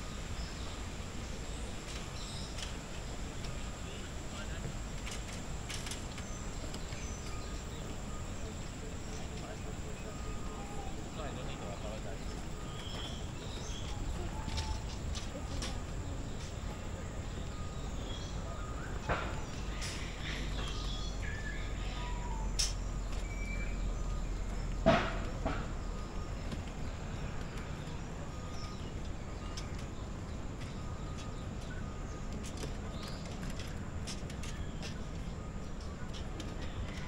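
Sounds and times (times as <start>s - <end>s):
bird calls: 0.0s - 37.0s
steady background hum: 0.0s - 37.0s.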